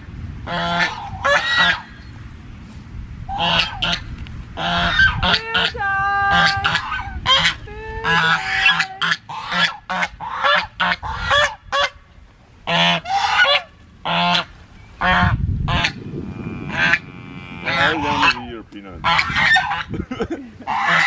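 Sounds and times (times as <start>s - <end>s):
flock of waterfowl calling: 0.5s - 2.2s, 3.3s - 20.0s, 20.6s - 21.0s.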